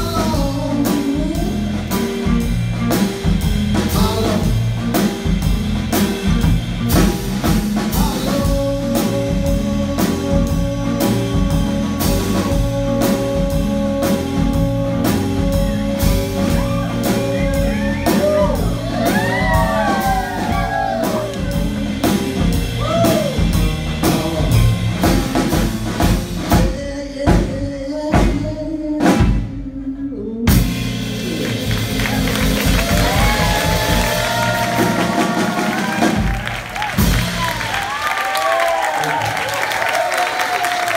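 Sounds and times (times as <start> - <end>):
live blues band playing: 0.0 - 40.9.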